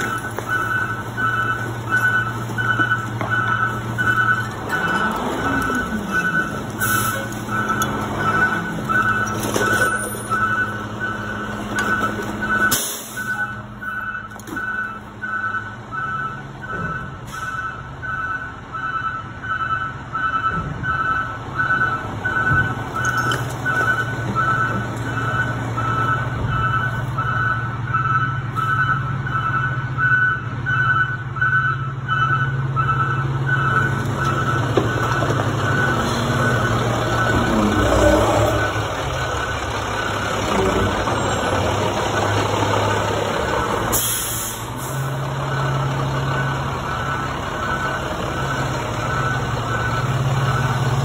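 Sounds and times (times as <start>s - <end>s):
diesel engine running: 0.0s - 18.0s, 20.8s - 51.0s
truck backup alarm beeping: 0.0s - 51.0s.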